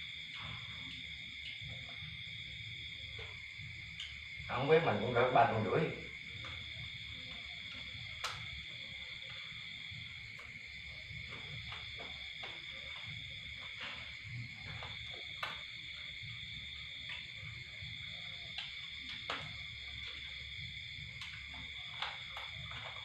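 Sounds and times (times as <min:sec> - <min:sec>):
night insects trilling: 0:00.0 - 0:23.0.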